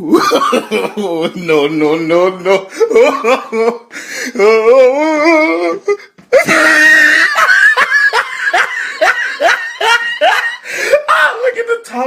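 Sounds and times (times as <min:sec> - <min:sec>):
person laughing: 0:00.0 - 0:01.7, 0:02.4 - 0:11.2.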